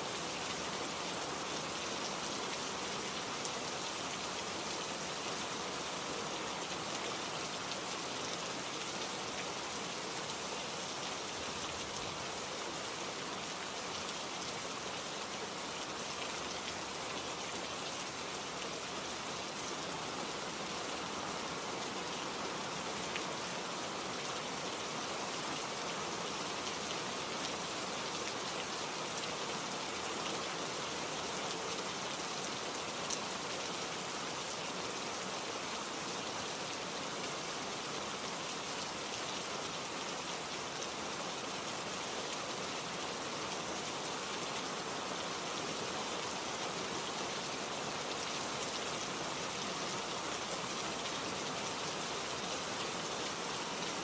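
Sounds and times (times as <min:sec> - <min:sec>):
rain ticking on a surface: 0:00.0 - 0:54.0.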